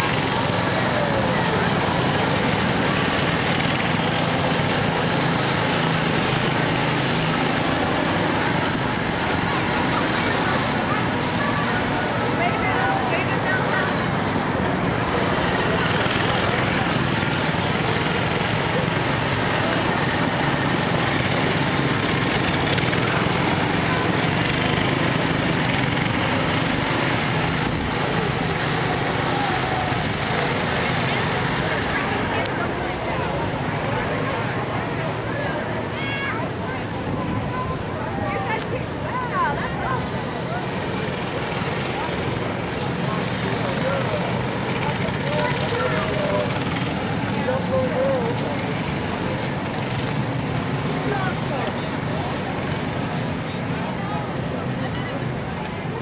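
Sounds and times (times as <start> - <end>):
go-kart engines running: 0.0 - 56.0.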